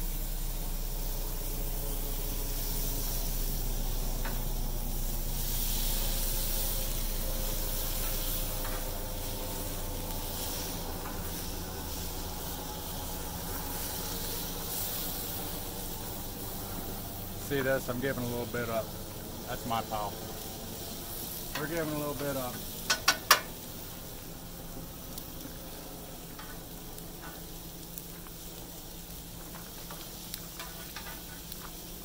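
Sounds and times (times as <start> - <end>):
steak sizzling on a griddle: 0.0 - 32.0.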